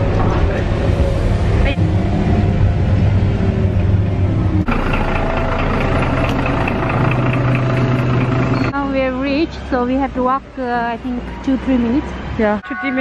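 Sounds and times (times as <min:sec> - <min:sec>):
bus engine humming: 0:00.0 - 0:13.0.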